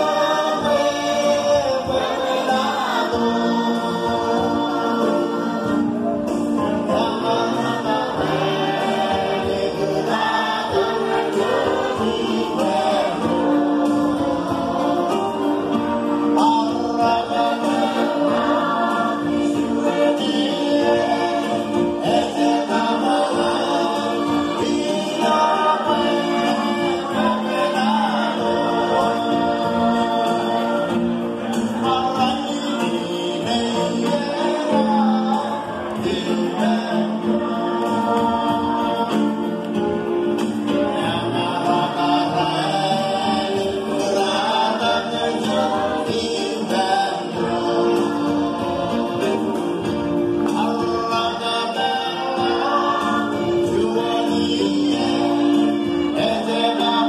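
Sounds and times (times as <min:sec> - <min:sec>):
group singing church song: 0:00.0 - 0:57.0.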